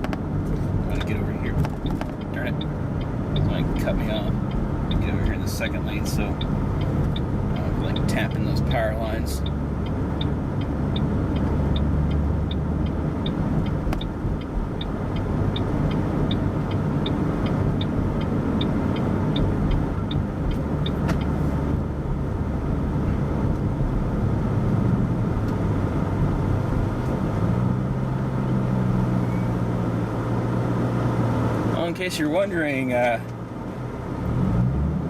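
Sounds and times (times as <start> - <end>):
car engine and road noise: 0.0 - 35.0
turn signal ticking: 0.0 - 35.0.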